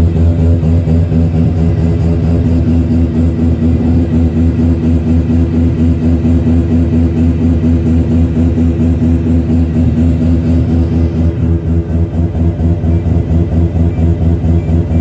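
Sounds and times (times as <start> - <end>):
rotary engine running: 0.0 - 15.0.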